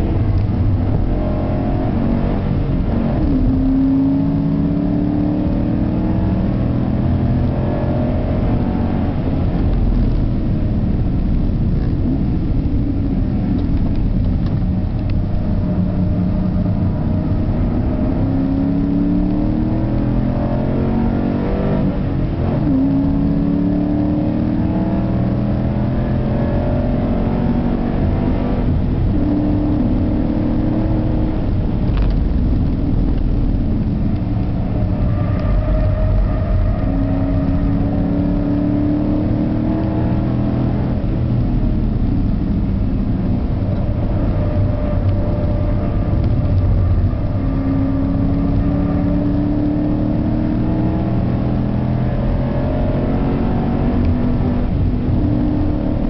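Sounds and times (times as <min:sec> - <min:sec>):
car engine accelerating: 0:00.0 - 0:56.0
road drone: 0:00.0 - 0:56.0.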